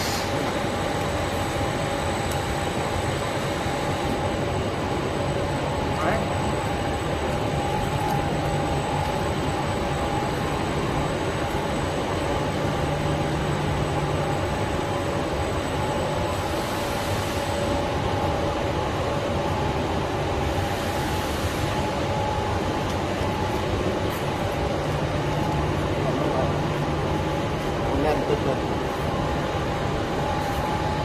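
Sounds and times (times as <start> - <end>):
roller conveyor rumbling: 0.0 - 31.0
steady humming tones: 0.0 - 31.0.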